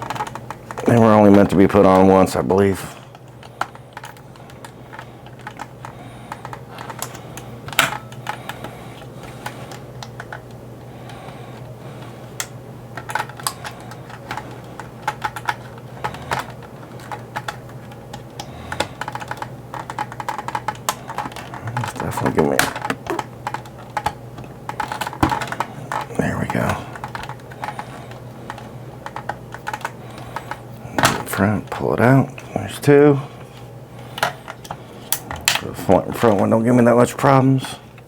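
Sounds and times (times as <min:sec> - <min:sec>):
screwdrivers clicking on plastic: 0:00.0 - 0:02.4, 0:03.0 - 0:31.4.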